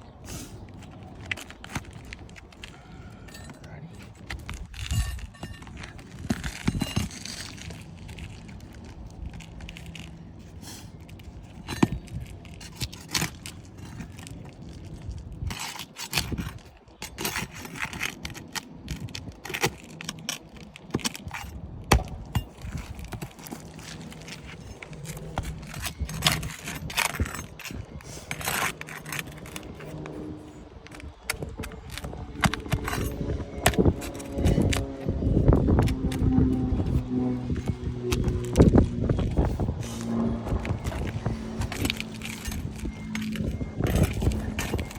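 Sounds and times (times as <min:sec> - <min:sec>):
roof shingles scraping and clicking: 0:00.0 - 0:44.9.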